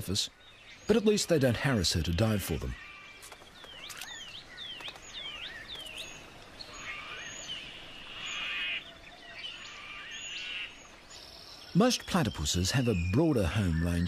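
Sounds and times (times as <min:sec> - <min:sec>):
bird chirps: 0:00.0 - 0:14.0
buzzy rattling bird calls: 0:00.8 - 0:14.0.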